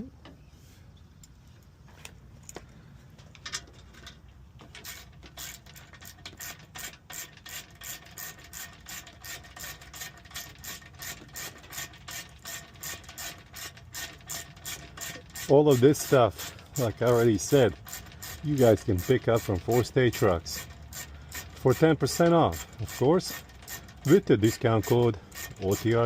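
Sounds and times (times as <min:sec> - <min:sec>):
hand ratchet clicking: 0:04.6 - 0:26.0.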